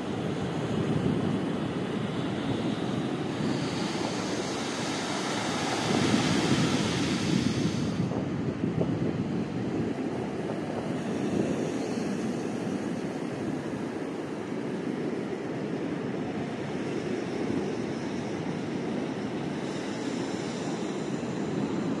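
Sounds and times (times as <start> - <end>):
waves breaking on sand: 0.0 - 22.0.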